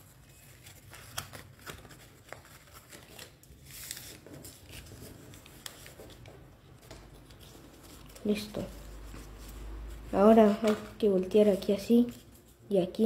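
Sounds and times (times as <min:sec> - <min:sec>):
paper rustling and crinkling: 0:00.0 - 0:12.6.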